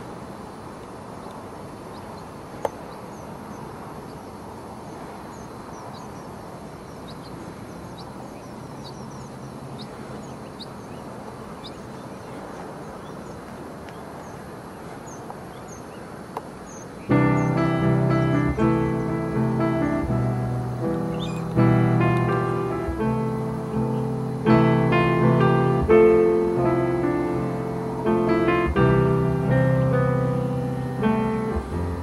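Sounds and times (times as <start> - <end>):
low rushing noise: 0.0 - 32.0.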